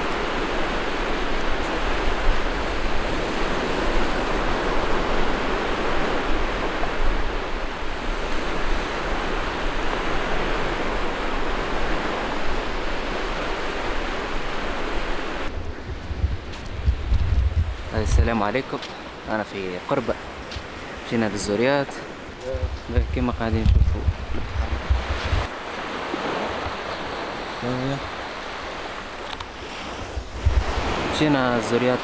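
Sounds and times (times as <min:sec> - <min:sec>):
surf breaking on a beach: 0:00.0 - 0:32.0.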